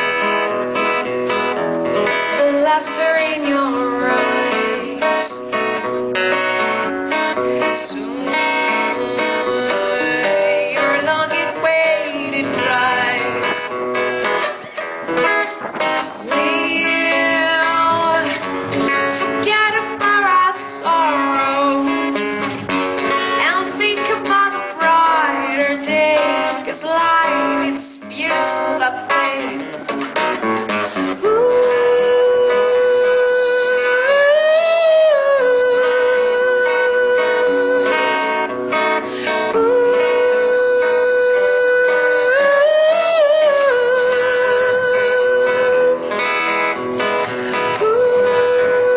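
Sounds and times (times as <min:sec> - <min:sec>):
acoustic guitar playing: 0:00.0 - 0:48.9
woman singing wordless melody: 0:02.2 - 0:13.7, 0:16.1 - 0:22.5, 0:23.3 - 0:29.8, 0:30.9 - 0:46.7, 0:47.5 - 0:48.9.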